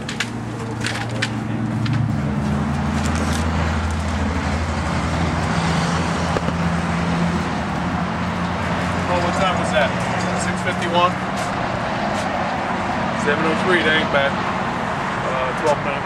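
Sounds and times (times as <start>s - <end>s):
road traffic drone: 0.0s - 16.0s.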